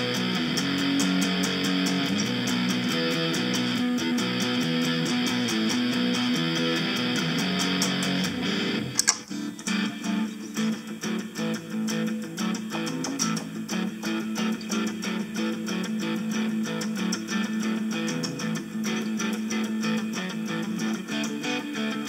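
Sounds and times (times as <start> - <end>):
electric guitar notes: 0.0 - 22.0.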